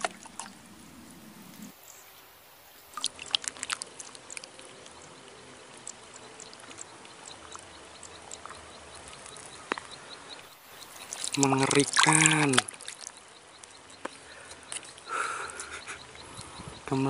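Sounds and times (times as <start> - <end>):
small water splashes and drips: 0.0 - 15.9
faint steady hiss: 0.0 - 17.0.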